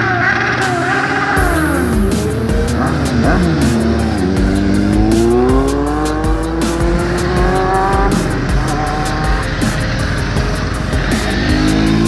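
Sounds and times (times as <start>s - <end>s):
motorcycle engine accelerating: 0.0s - 12.0s
motorcycles passing by: 0.0s - 12.0s.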